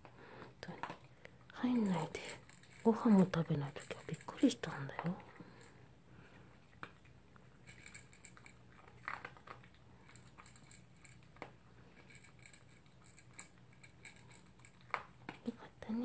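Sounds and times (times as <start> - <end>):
dog crunching food: 1.8 - 15.5.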